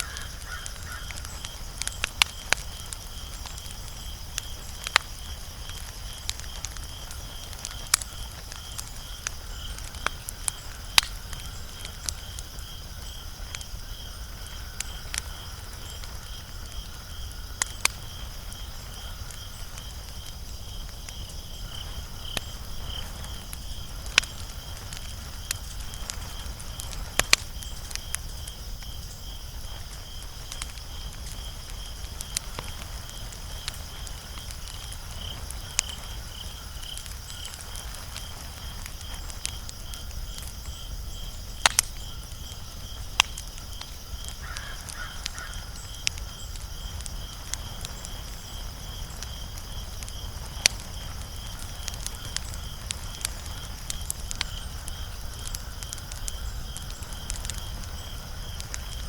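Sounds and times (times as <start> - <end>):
pulsing cricket-like chirp: 0.0 - 59.0
wood fire crackling: 0.0 - 59.0.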